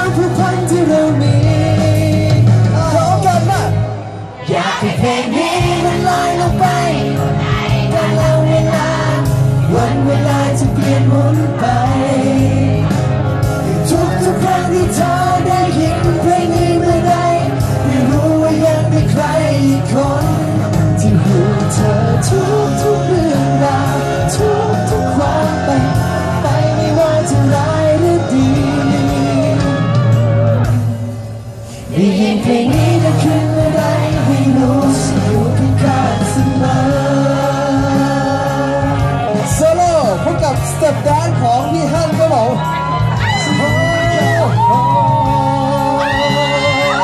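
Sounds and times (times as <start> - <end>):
men singing into microphones: 0.0 - 41.2, 42.9 - 47.0
pop accompaniment: 0.0 - 47.0.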